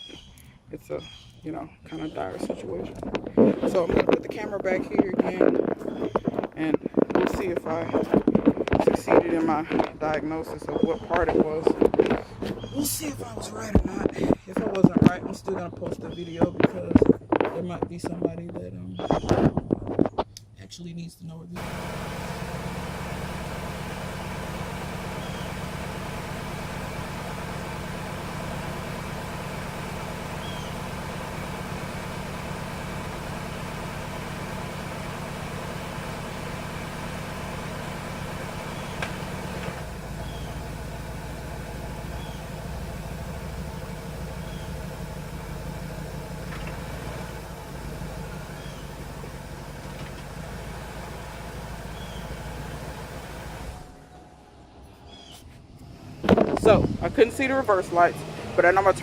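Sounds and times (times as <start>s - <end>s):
car engine idling: 0.0s - 19.0s, 21.6s - 59.0s.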